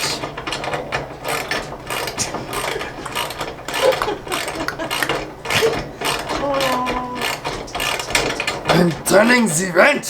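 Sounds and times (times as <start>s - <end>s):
ratchet wrench clicking: 0.0s - 8.8s.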